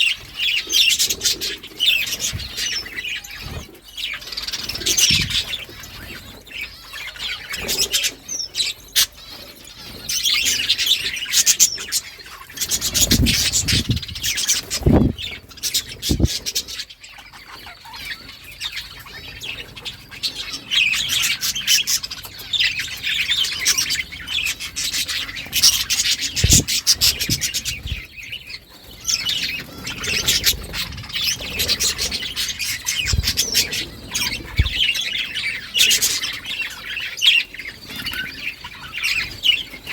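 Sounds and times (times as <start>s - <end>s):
budgies chirping and chattering: 0.0s - 39.9s.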